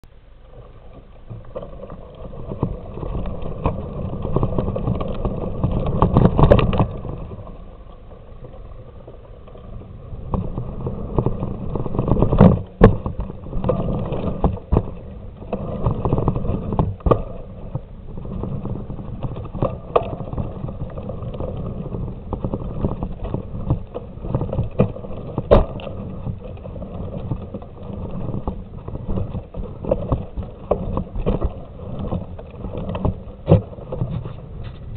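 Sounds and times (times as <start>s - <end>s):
bicycle tyres rolling on dirt: 0.0s - 34.9s
bicycle rattles and knocks: 0.5s - 34.9s.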